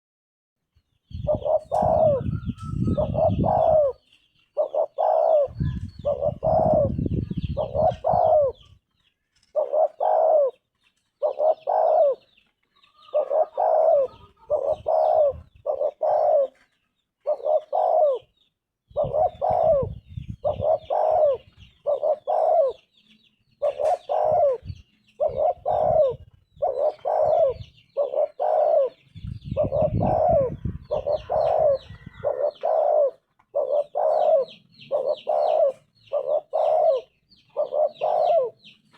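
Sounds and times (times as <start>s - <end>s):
dove cooing: 1.1s - 8.8s, 9.4s - 38.9s.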